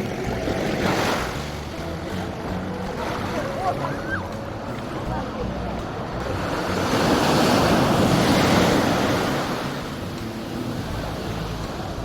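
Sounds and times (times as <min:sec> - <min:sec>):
ocean wave breaking: 0:00.0 - 0:12.0.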